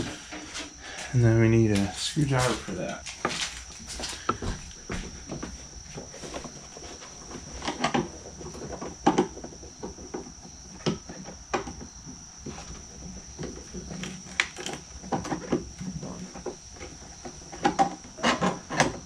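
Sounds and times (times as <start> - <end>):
faint high whine: 0.0 - 17.4.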